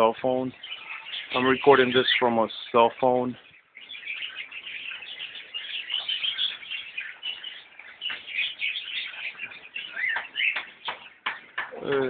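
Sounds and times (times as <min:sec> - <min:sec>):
cockatiels chirping: 0:00.0 - 0:12.0.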